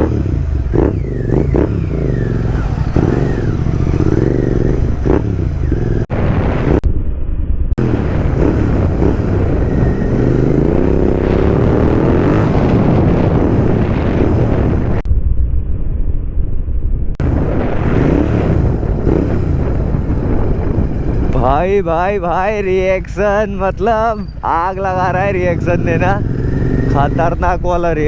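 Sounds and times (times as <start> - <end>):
motorcycle engine through loud exhaust: 0.0 - 15.3, 17.2 - 28.0.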